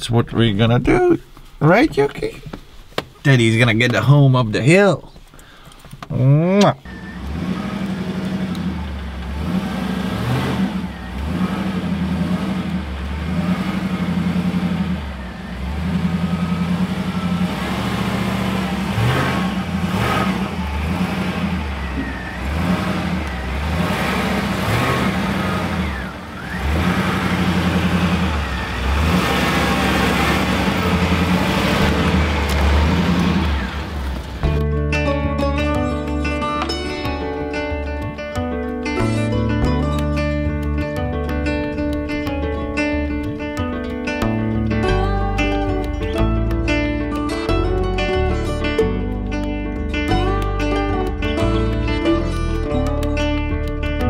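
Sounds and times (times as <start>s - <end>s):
truck engine revving uphill: 6.6s - 54.0s.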